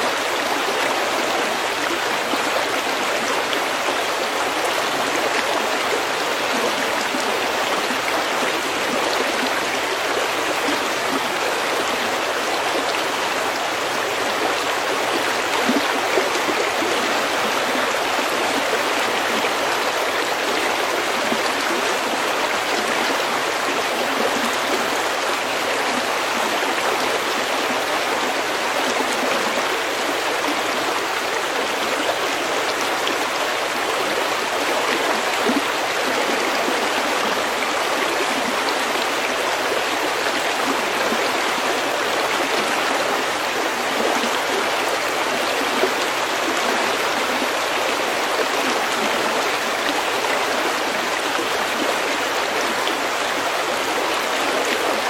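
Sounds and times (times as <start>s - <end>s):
stream babbling over pebbles: 0.0s - 55.0s.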